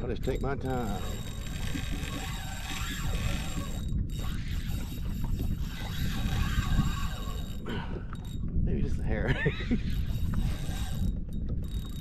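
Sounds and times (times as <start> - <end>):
fishing reel drag ratcheting: 0.0 - 8.5, 9.4 - 12.0.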